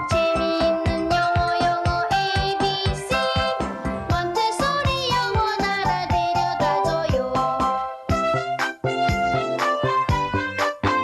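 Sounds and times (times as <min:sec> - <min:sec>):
bouncy children's music: 0:00.0 - 0:11.0.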